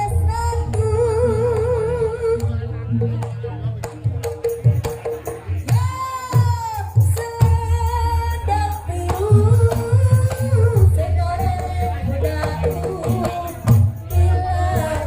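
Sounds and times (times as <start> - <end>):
hand percussion: 0.0 - 15.0.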